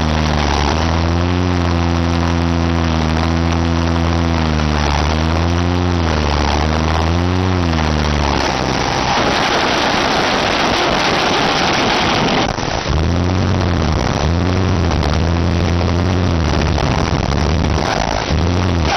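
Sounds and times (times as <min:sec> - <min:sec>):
loud rush of noise: 0:00.0 - 0:18.9
vehicle engine revving: 0:00.0 - 0:18.9.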